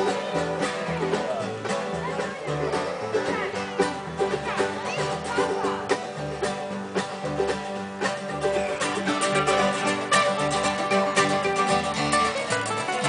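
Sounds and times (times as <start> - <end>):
banjo: 0.0 - 13.0
bass line: 0.0 - 13.0
plucked guitar: 0.0 - 13.0.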